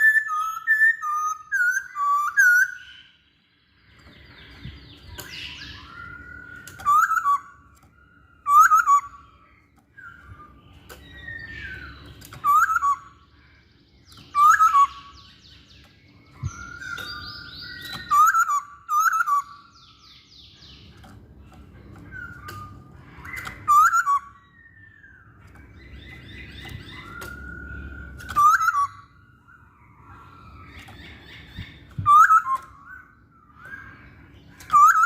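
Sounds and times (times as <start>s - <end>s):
bird whistled song notes: 0.0s - 35.0s
soft bird chatter: 0.0s - 35.0s.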